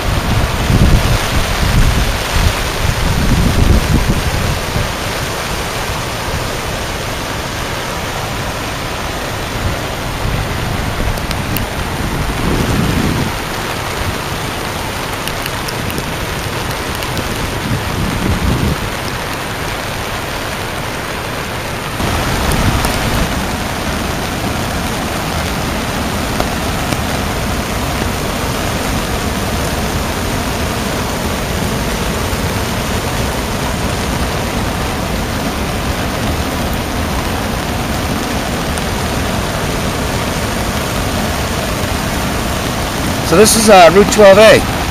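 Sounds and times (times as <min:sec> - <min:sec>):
floodwater rushing: 0:00.0 - 0:44.9
rain: 0:00.0 - 0:44.9.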